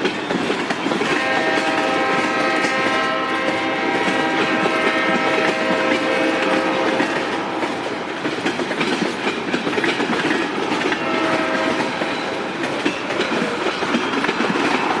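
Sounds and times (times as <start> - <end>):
clickety-clack over rail joints: 0.0 - 15.0
freight train wheels rumbling on rails: 0.0 - 15.0.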